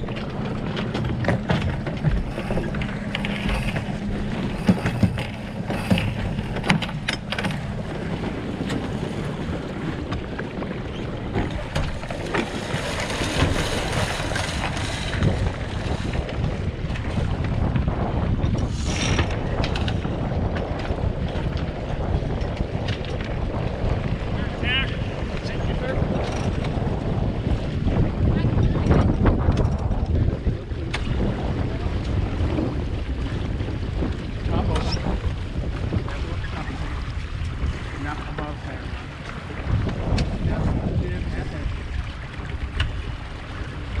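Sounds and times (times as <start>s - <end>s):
water rushing along hull: 0.0s - 44.0s
wind buffeting microphone: 0.0s - 44.0s.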